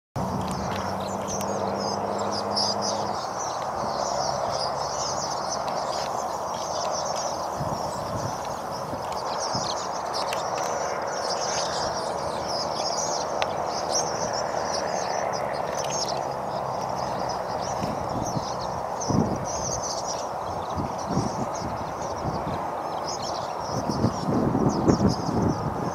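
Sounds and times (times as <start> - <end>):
steady rushing background noise: 0.2 - 25.9
swallows twittering: 0.2 - 25.9.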